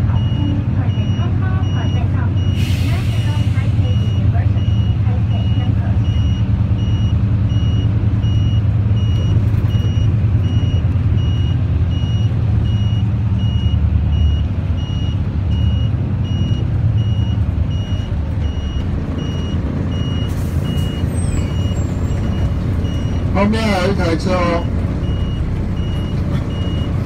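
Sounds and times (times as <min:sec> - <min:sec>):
bus engine rumble: 0:00.0 - 0:27.0.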